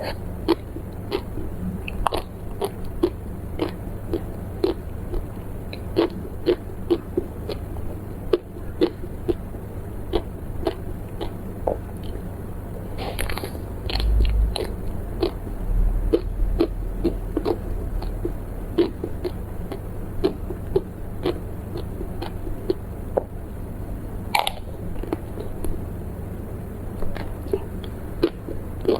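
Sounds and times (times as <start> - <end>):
mouth chewing snack food: 0.0 - 23.3, 24.4 - 25.8, 27.0 - 28.9.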